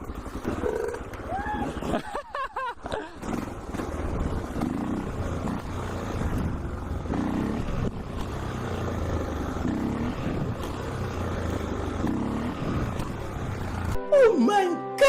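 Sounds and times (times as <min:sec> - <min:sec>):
motorcycle engine running: 0:00.0 - 0:02.0, 0:03.0 - 0:14.0.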